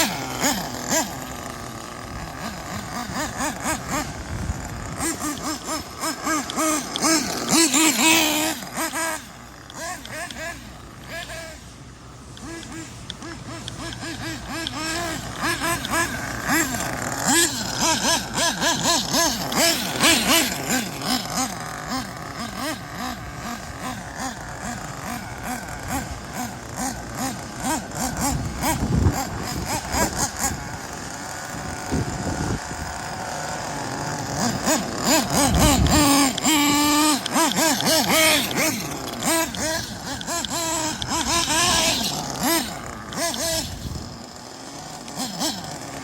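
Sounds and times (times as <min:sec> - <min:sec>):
model car engine revving: 0:00.0 - 0:46.0.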